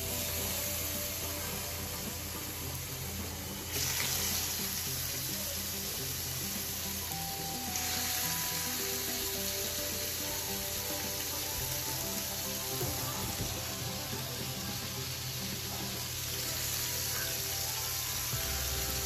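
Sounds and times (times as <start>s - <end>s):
steaks sizzling in frying pan: 0.0s - 19.0s.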